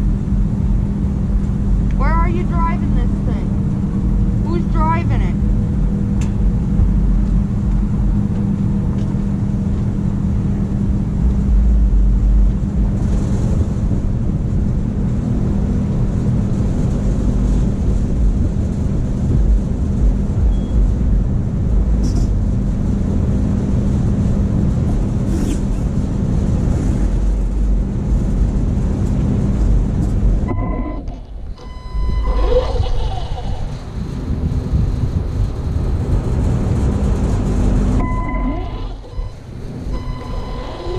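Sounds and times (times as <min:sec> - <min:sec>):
constant rumble: 0:00.0 - 0:40.9
low mechanical hum: 0:00.0 - 0:40.9.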